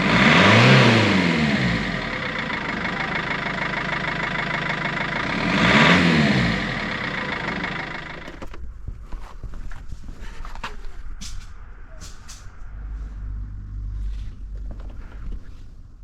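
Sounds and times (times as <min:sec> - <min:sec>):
diesel engine idling: 0:00.0 - 0:08.8, 0:11.8 - 0:16.0.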